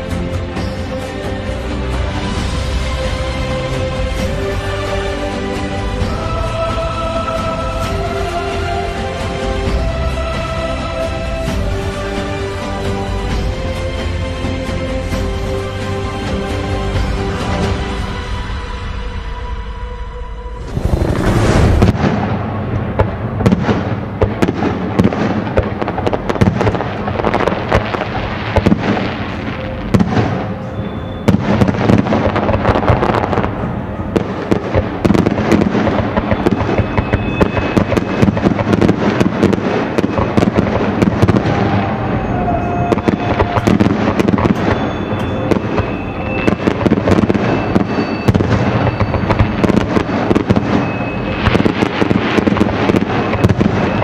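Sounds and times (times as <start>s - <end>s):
fireworks bangs and crackles: 0.0s - 18.0s, 20.6s - 54.0s.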